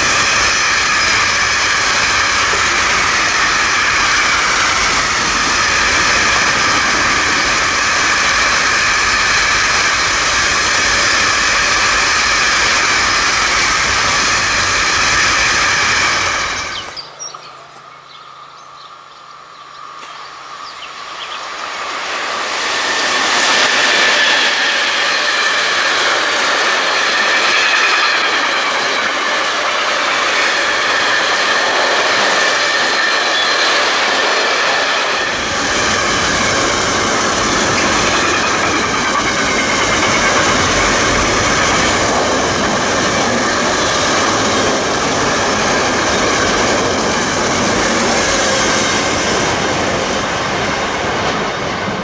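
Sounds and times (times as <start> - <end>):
wheels squealing: 0.0 - 18.9, 19.6 - 52.0
freight train rolling past: 0.0 - 52.0.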